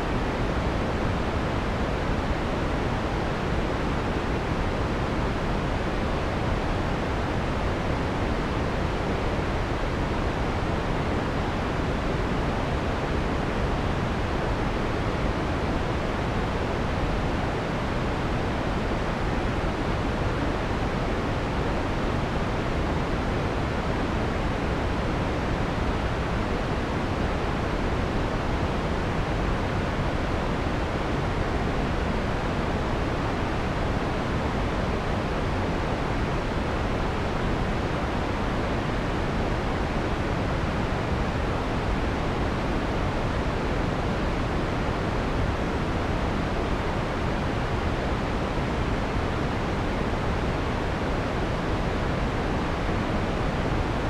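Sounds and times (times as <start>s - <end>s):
soft filtered white noise: 0.0s - 54.0s.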